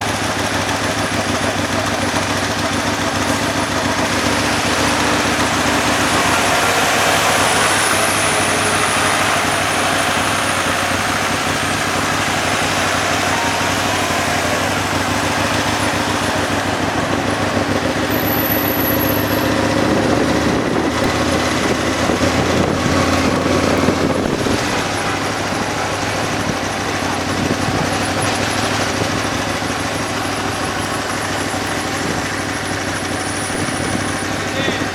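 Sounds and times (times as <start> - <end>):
motorcycle engine running: 0.0 - 34.9
road noise rushing: 0.0 - 34.9.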